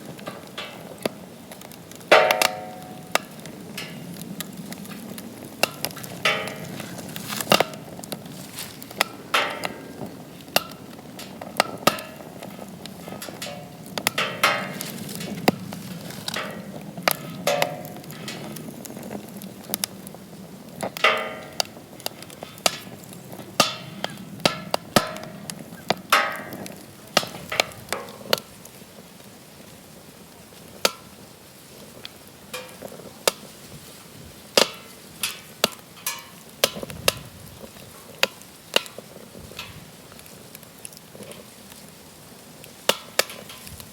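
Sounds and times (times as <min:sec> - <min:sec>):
flame rushing: 0:00.0 - 0:35.7
campfire crackling and popping: 0:00.0 - 0:43.9.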